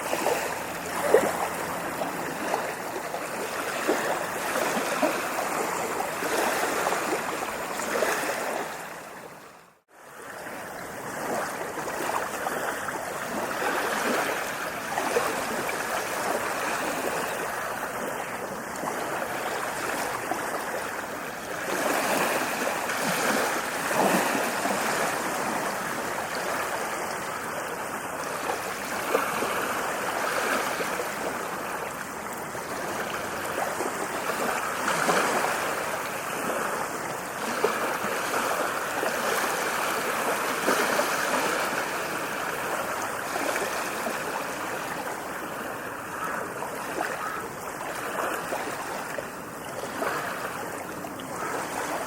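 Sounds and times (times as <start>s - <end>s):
ocean waves breaking on beach: 0.0s - 52.0s.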